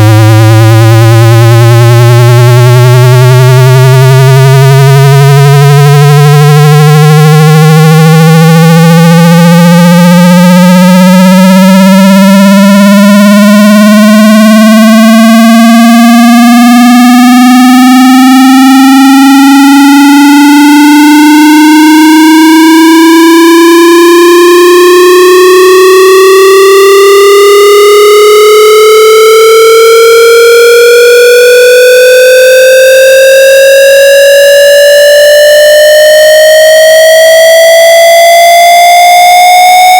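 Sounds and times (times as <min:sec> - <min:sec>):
buzzy synthesized tone sweeping upward: 0:00.0 - 0:39.9.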